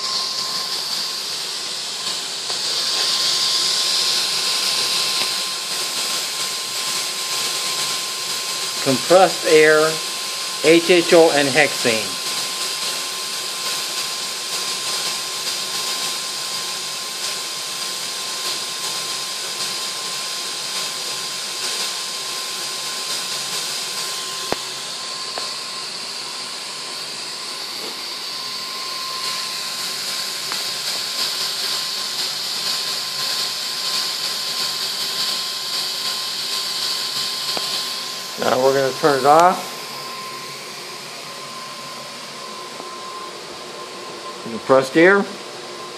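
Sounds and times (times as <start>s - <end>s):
burner flames hissing: 0.0s - 45.9s
thin steady whine: 0.0s - 45.9s.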